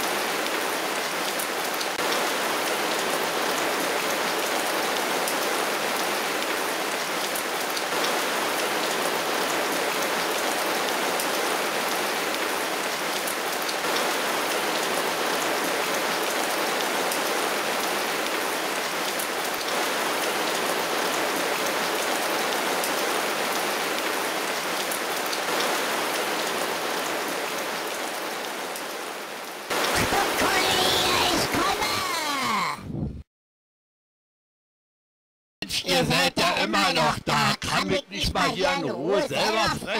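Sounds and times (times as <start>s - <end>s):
heavy rain falling: 0.0s - 32.4s.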